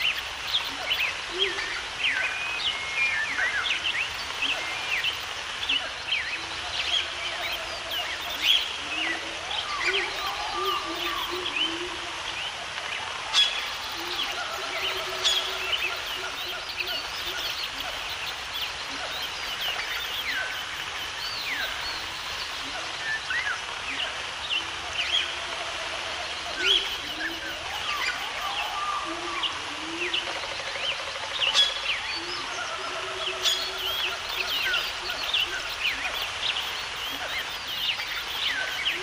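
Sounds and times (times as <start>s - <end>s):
birds chirping in chorus: 0.0s - 11.8s, 13.3s - 23.5s, 26.2s - 30.2s, 30.8s - 39.0s
steady background hiss: 0.0s - 39.0s.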